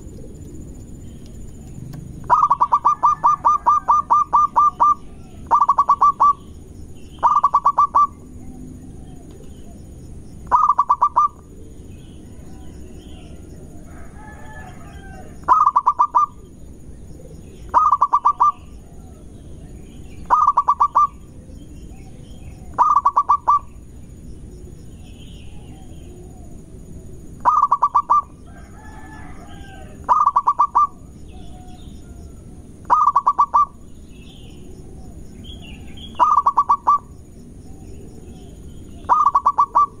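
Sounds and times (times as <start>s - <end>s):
dove cooing: 0.0s - 19.6s, 20.2s - 23.9s, 25.4s - 33.8s, 34.5s - 37.1s, 37.7s - 40.0s.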